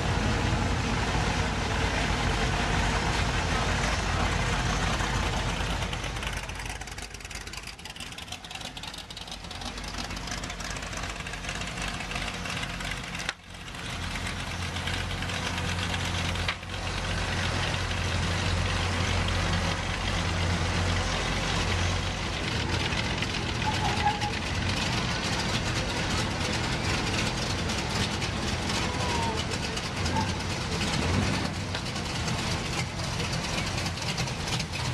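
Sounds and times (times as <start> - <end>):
car engines idling: 0.0 - 34.9.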